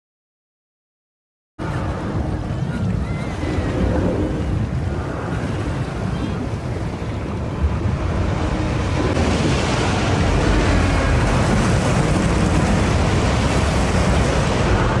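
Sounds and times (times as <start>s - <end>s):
deep rumble: 1.6s - 15.0s
heavy churning sea: 1.6s - 15.0s.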